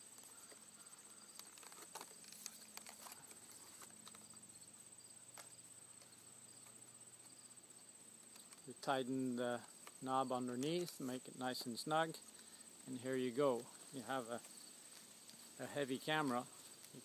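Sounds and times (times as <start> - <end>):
faint high insect trill: 0.0 - 17.0.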